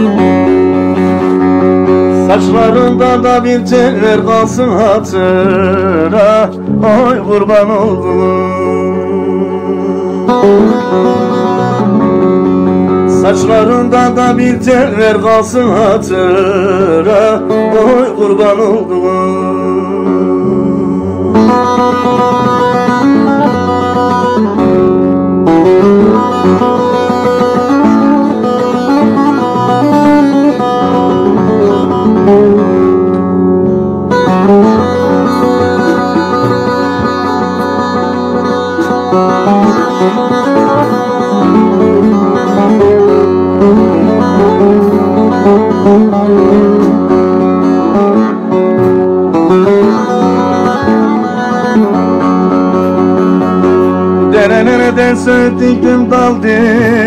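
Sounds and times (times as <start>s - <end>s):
long-necked lute plucked and strummed: 0.0s - 57.0s.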